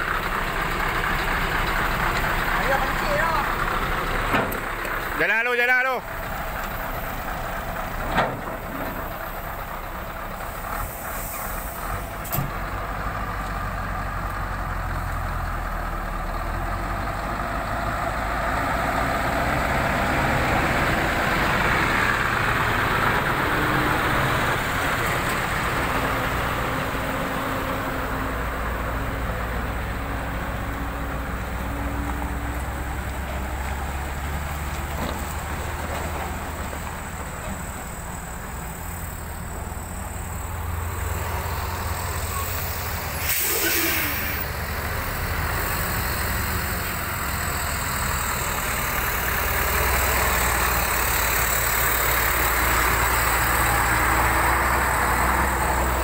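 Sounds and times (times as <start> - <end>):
truck engine pulling away: 0.0 - 56.0.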